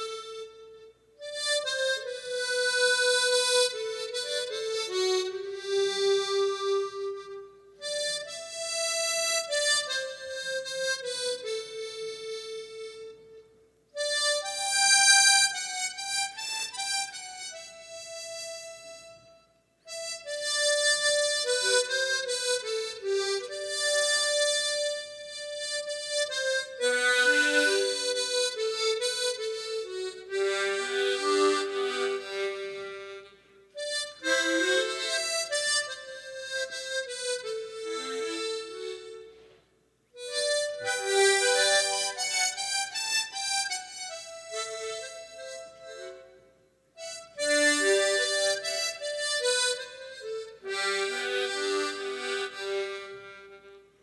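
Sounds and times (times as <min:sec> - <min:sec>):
harmonica slow melody: 0:00.0 - 0:54.0.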